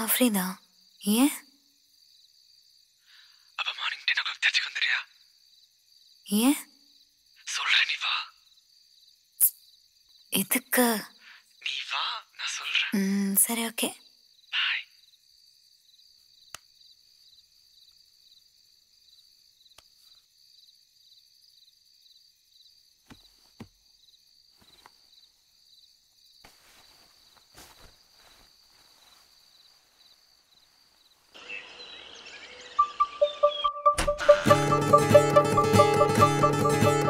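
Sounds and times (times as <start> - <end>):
crickets chirping: 0.0 - 33.6.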